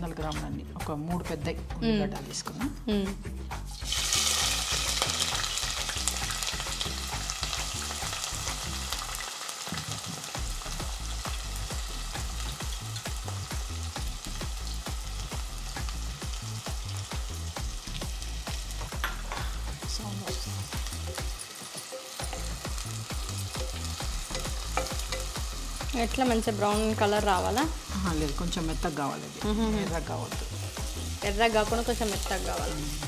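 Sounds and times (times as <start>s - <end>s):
onions sizzling in hot oil: 3.6s - 33.0s.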